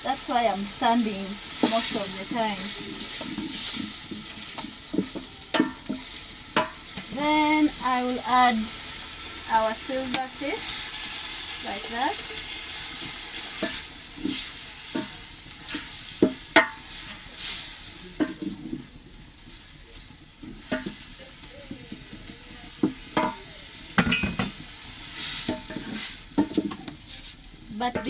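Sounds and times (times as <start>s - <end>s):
food sizzling in a pan: 0.0s - 28.0s
spoon scraping a pan: 0.3s - 19.0s, 20.0s - 28.0s.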